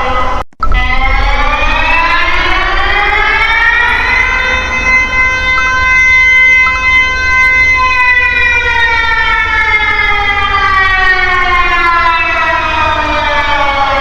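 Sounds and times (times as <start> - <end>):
warning siren sliding down: 0.0 - 14.0.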